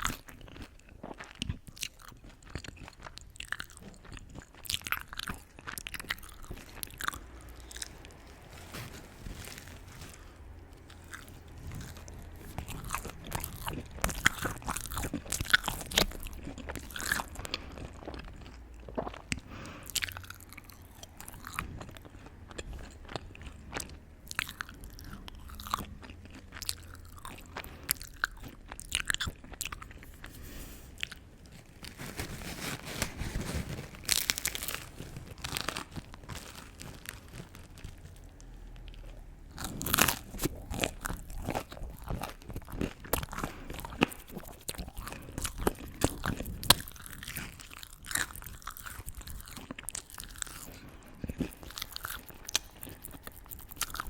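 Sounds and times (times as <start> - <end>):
crunchy bites and chewing: 0.0 - 54.0.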